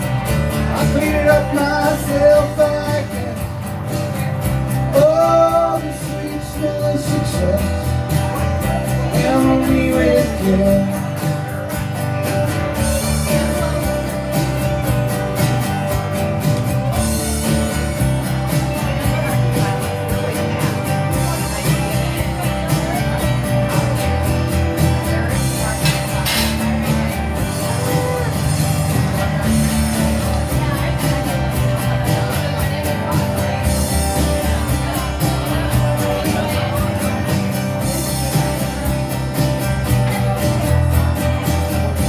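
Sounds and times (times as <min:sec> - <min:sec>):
guitar: 0:00.0 - 0:42.0
live country-rock band playing: 0:00.0 - 0:42.0.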